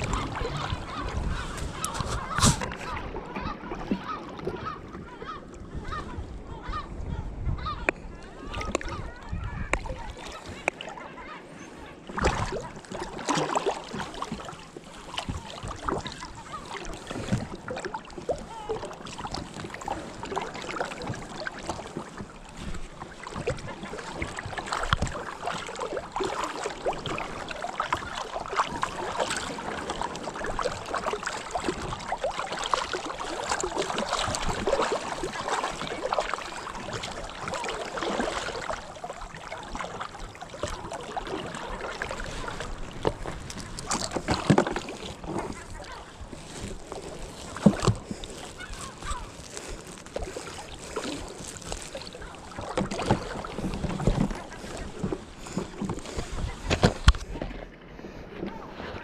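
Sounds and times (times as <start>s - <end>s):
sea water sloshing and splashing: 0.0s - 59.0s.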